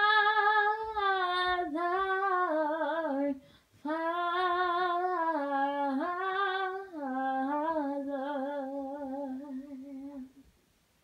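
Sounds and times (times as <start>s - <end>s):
woman singing unaccompanied: 0.0s - 10.5s.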